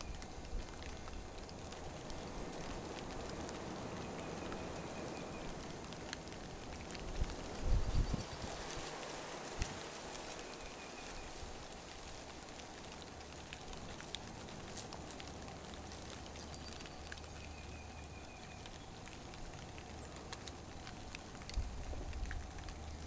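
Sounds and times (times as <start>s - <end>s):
small clicks and crackles: 0.0s - 23.0s
steady outdoor hiss: 0.0s - 23.0s.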